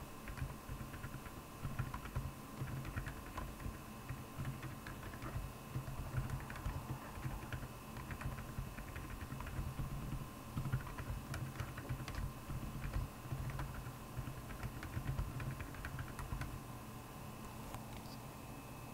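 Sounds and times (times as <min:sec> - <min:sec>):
soft keyboard key presses: 0:00.3 - 0:16.6.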